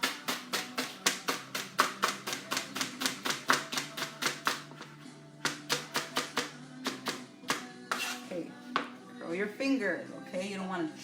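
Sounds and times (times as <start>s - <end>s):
knife chopping on cutting board: 0.0s - 8.9s.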